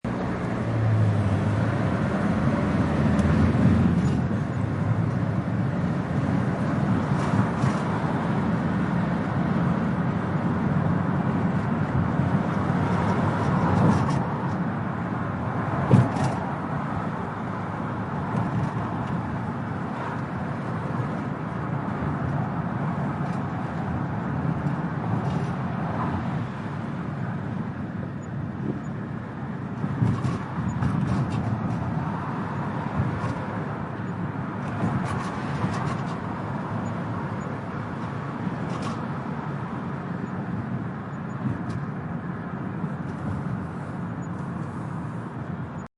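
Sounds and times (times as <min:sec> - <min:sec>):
rattly vehicle exhaust droning: 0:00.0 - 0:45.9.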